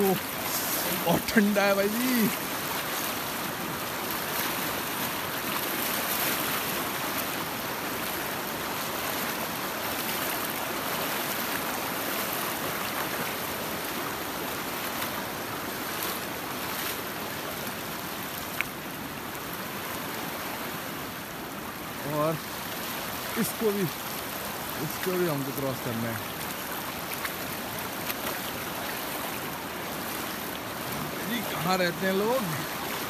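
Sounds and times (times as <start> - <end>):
fast-flowing river rushing: 0.0 - 33.0.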